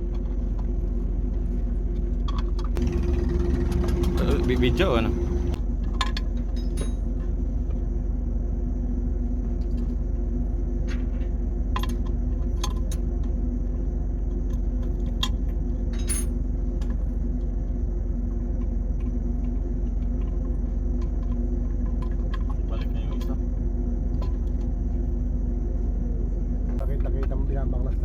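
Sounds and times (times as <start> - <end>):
engine-room machinery drone: 0.0 - 28.0.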